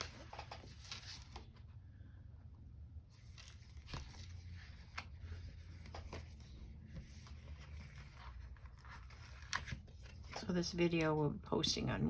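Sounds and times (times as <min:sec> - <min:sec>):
paper rustling: 0:00.0 - 0:01.8, 0:03.1 - 0:11.1
low steady hum: 0:00.0 - 0:12.0.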